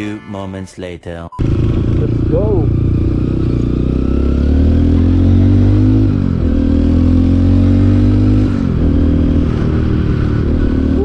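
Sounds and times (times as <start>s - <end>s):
motorcycle engine accelerating: 1.4s - 11.0s.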